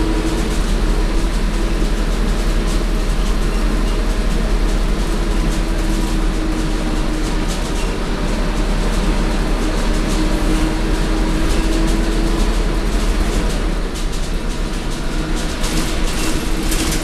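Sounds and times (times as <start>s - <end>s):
bus diesel engine running: 0.0s - 17.0s
road noise: 0.0s - 17.0s.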